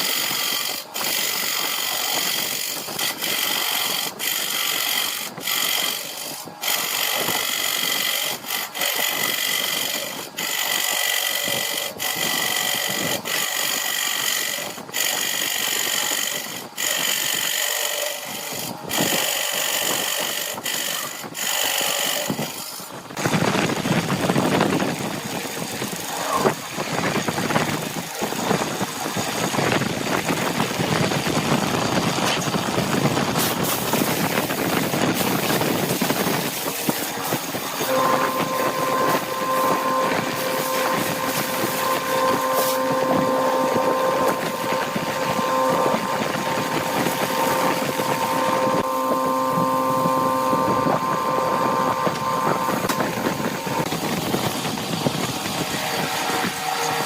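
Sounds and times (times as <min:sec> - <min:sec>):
rough cutting or sanding: 0:00.0 - 0:57.0
wood lathe whining: 0:00.0 - 0:57.0.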